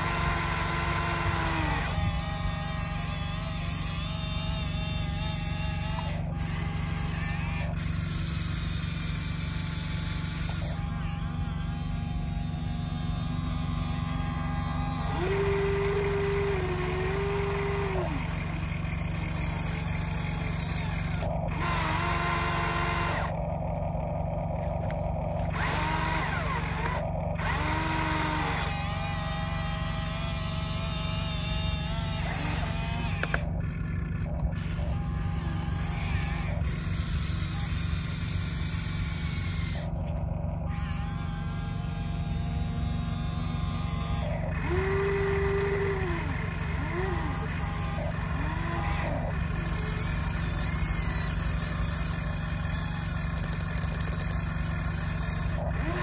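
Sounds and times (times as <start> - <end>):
electric motors whining: 0.0 - 56.0
steady low hum: 0.0 - 56.0.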